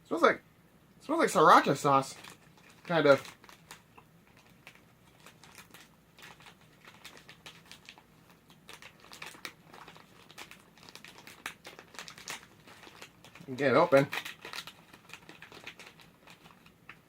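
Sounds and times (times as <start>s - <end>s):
snack packet crinkling: 1.4s - 17.0s.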